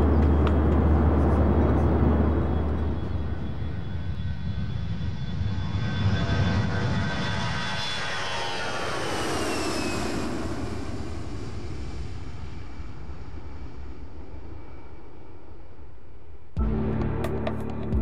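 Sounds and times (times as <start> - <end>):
jet airliner passing: 0.0 - 16.2.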